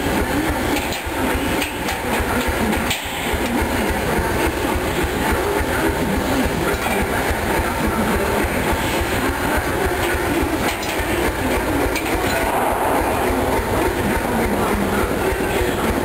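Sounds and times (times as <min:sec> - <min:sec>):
machine thudding rhythmically: 0:00.0 - 0:16.0.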